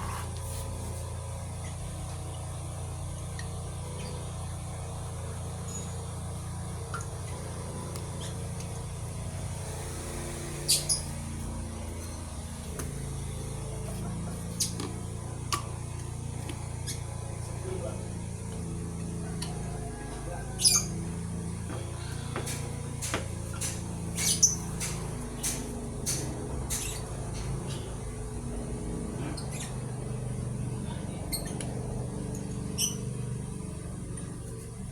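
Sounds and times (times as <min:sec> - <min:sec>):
low workshop hum: 0:00.0 - 0:34.9.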